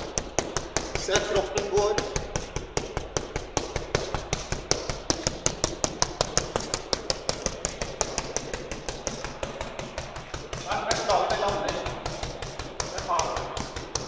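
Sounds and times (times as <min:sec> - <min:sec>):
fists thudding on punching bag: 0:00.0 - 0:14.0.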